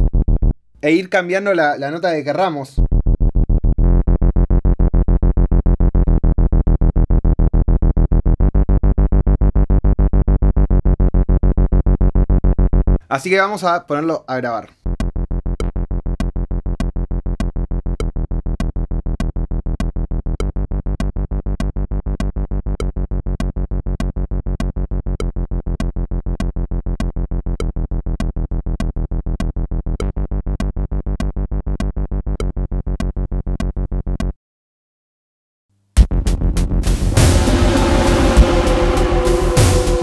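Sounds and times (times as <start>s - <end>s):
synthesizer bass line short notes: 2.8s - 13.0s, 14.8s - 34.4s, 36.0s - 40.0s.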